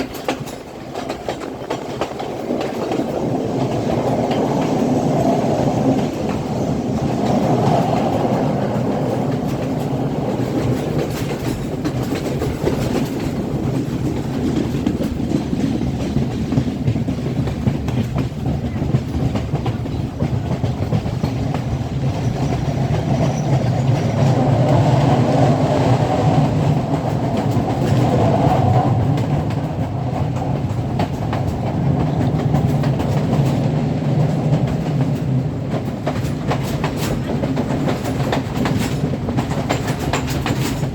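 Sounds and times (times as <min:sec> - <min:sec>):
train carriages rumbling: 0:00.0 - 0:40.9
wheels clattering over rail joints: 0:00.0 - 0:40.9.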